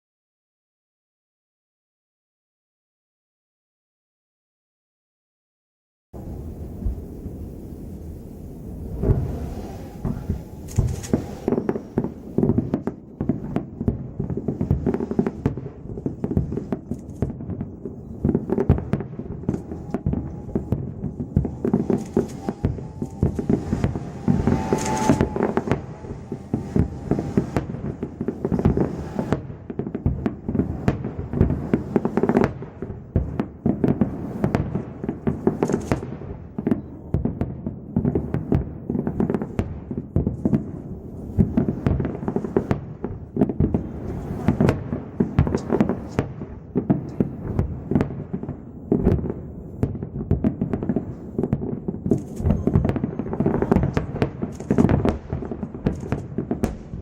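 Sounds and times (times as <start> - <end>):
fireworks bursts and bangs: 6.2 - 57.0.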